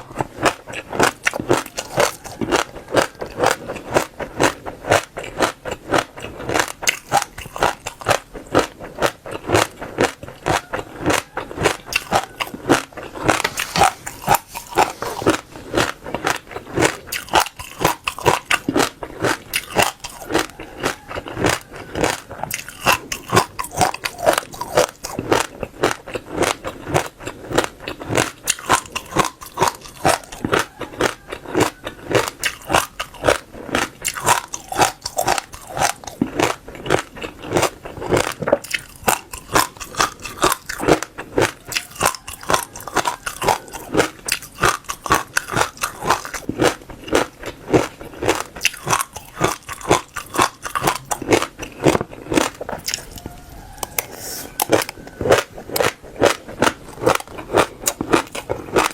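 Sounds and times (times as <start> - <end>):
crunching seeds between teeth: 0.0 - 58.9.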